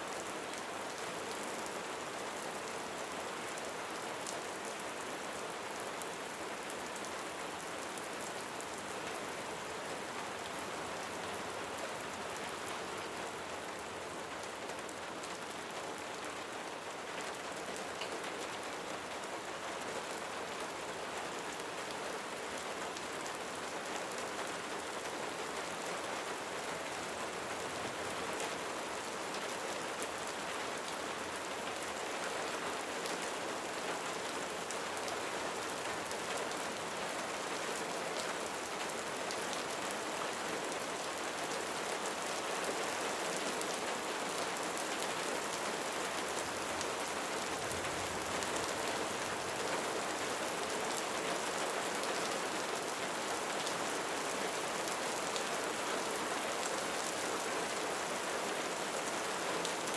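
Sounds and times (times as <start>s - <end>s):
rain falling on a roof: 0.0s - 59.9s.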